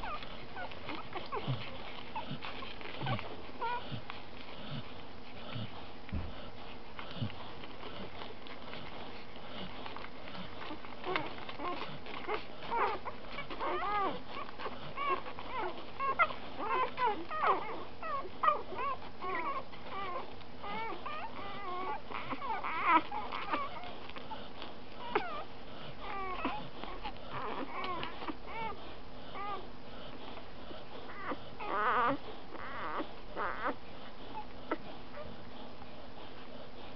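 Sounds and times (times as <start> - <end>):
puppies squeaking and whimpering: 0.0 - 36.9.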